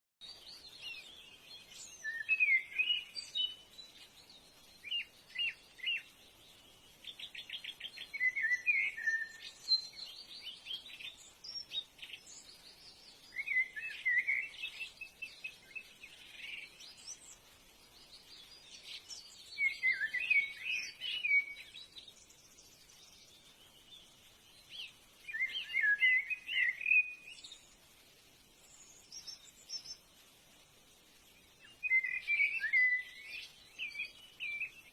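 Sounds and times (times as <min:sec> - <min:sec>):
bird chirping and warbling: 0:00.2 - 0:27.8, 0:31.4 - 0:34.9.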